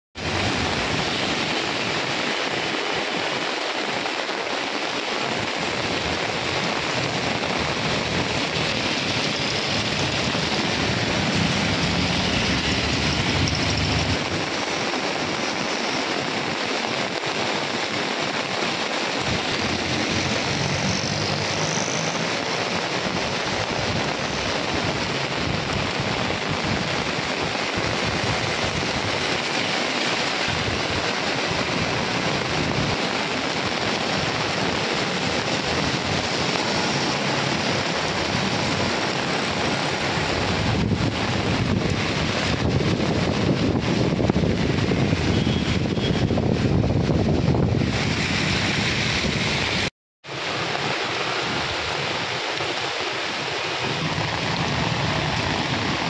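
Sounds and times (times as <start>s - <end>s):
heavy rain on wet street: 0.2s - 56.0s.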